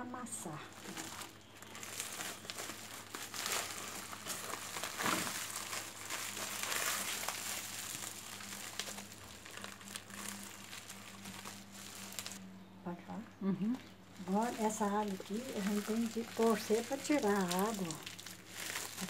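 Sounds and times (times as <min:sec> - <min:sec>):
sack rustling and crinkling: 0:00.4 - 0:12.4, 0:14.1 - 0:19.0.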